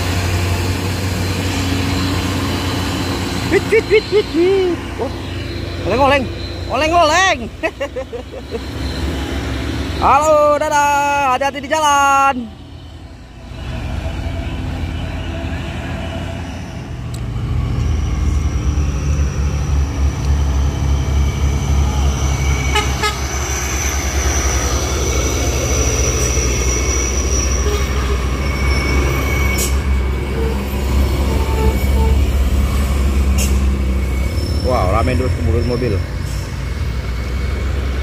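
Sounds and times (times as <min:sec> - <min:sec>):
diesel truck engine under load: 0:00.0 - 0:11.6, 0:12.5 - 0:38.0
high-pitched whine: 0:00.0 - 0:36.4.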